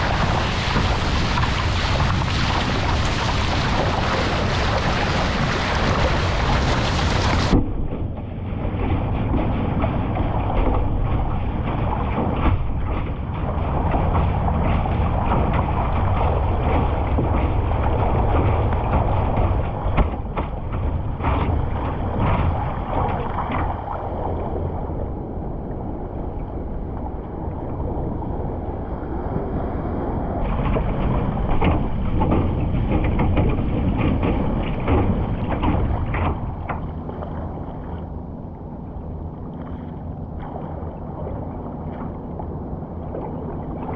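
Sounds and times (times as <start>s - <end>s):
paddle blades splashing: 0.0s - 43.9s
water rushing along kayak hull: 0.0s - 43.9s.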